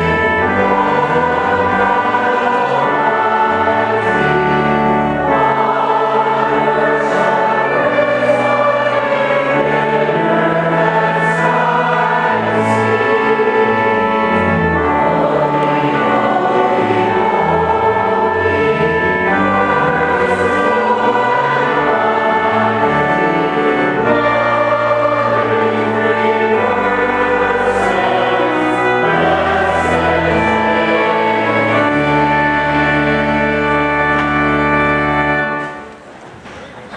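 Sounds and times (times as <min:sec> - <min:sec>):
church choir singing: 0:00.0 - 0:36.1.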